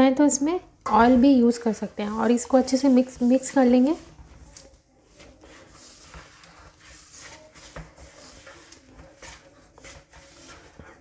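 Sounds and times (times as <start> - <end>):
fingers rubbing flour in steel bowl: 1.5 - 11.0.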